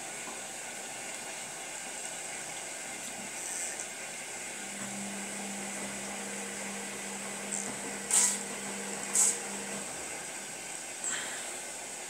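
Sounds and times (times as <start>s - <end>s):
surges of water noise: 0.0s - 12.0s
washing machine low hum: 0.0s - 12.0s
washing machine water hiss: 0.0s - 12.0s.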